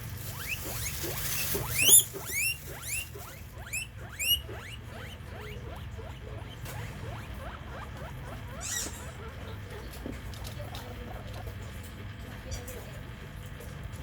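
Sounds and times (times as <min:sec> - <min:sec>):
mice squeaking: 0:00.2 - 0:11.9.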